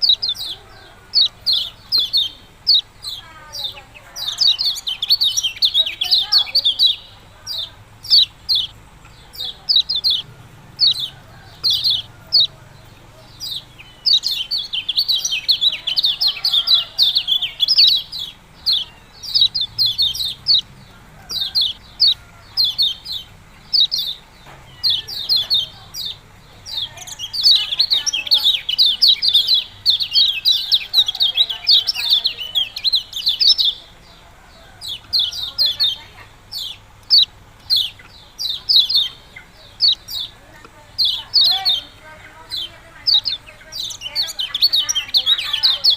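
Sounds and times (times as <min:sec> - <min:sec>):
bird sharp high chirps: 0:00.0 - 0:34.1, 0:34.8 - 0:45.9.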